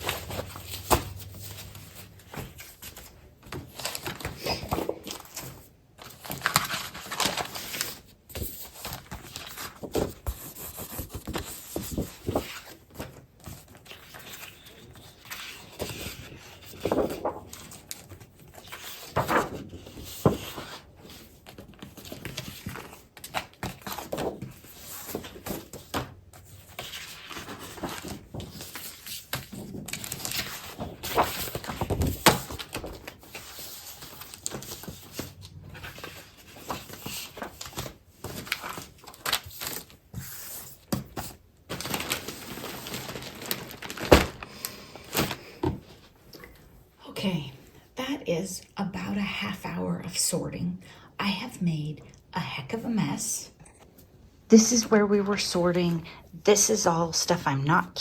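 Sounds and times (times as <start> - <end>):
paper rustling and crinkling: 0.0 - 46.7.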